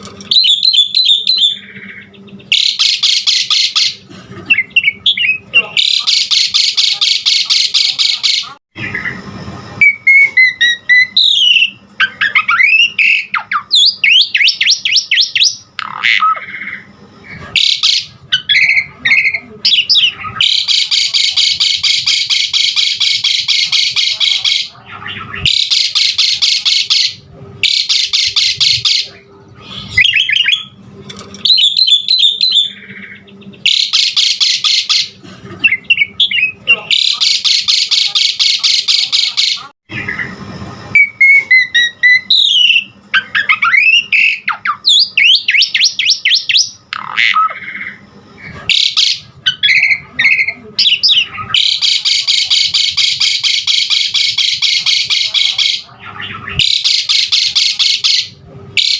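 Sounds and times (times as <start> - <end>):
starling singing: 0.2 - 9.2, 9.8 - 16.9, 17.6 - 30.8, 31.4 - 40.3, 41.0 - 48.0, 48.7 - 58.9.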